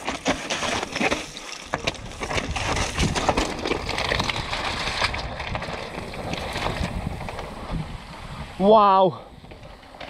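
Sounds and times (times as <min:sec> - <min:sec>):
bike rattling over rocks: 0:00.0 - 0:10.0
tyres crunching over gravel: 0:00.0 - 0:10.0.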